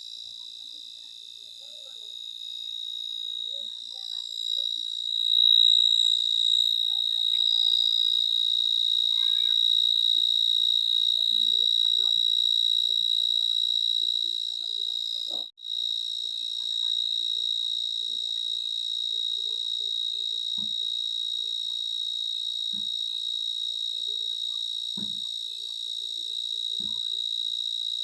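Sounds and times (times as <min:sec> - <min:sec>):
insect trill: 0:00.0 - 0:28.0.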